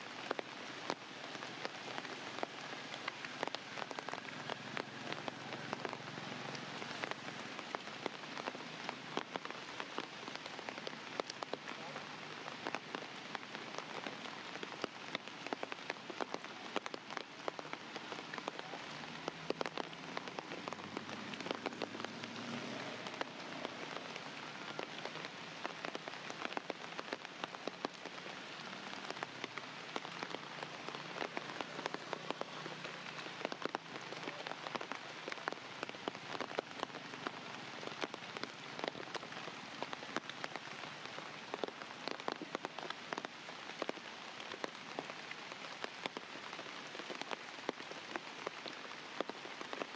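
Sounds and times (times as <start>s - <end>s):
raindrops ticking nearby: 0.0s - 49.9s
steady rain falling: 0.0s - 49.9s.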